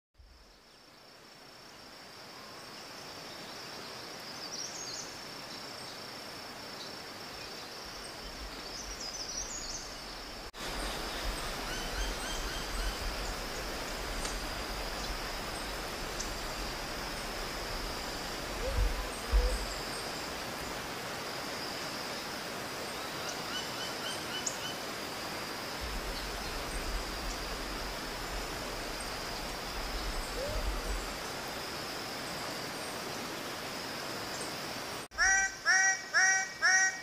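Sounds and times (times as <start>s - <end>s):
high insect drone: 0.2s - 37.0s.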